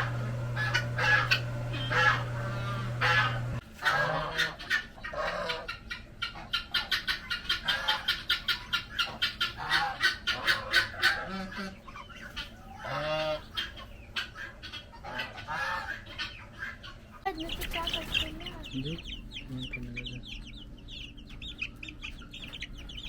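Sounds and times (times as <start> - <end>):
poultry calling: 0.0 - 23.0.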